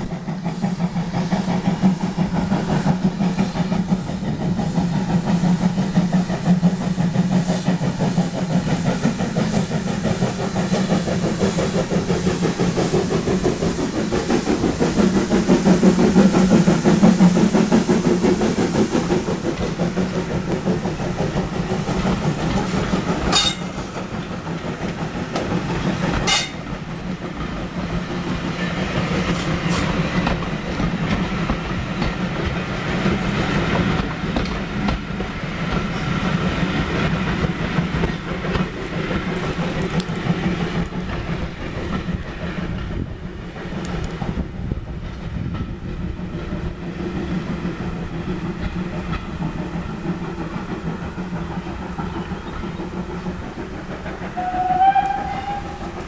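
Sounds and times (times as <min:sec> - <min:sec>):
steam locomotive passing: 0:00.0 - 0:56.0
wheels clacking over rail joints: 0:00.0 - 0:56.0.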